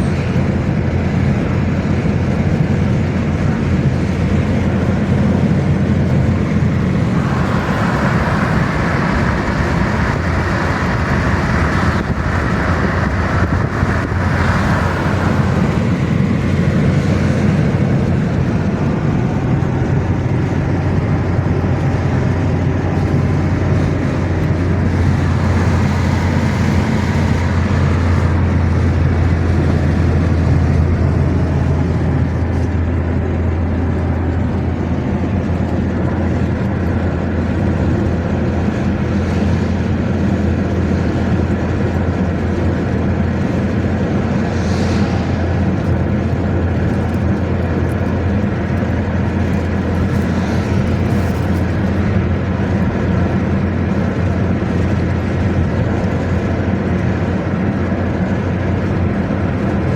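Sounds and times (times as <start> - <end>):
car engine hum: 0.0 - 59.9
road noise: 0.0 - 59.9.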